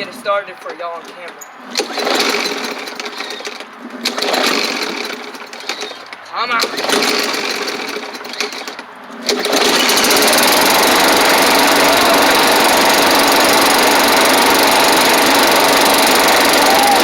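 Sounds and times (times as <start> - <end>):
lawnmower engine running: 1.1 - 17.0.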